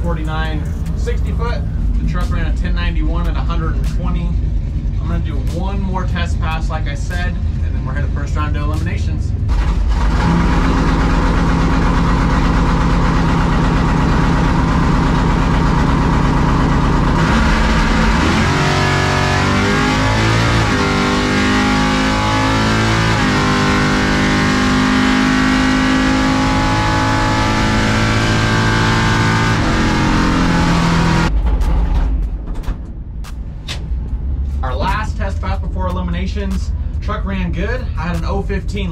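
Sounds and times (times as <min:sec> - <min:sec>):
pickup engine running loud: 0:00.0 - 0:31.3.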